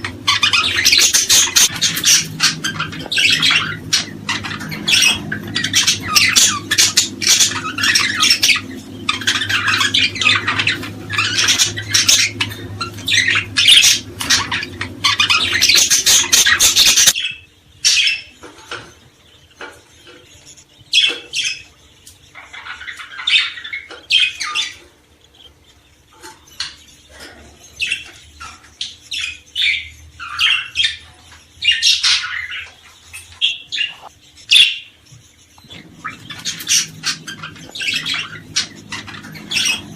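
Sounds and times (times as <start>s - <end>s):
songbirds chirping and squawking: 0.0s - 39.9s.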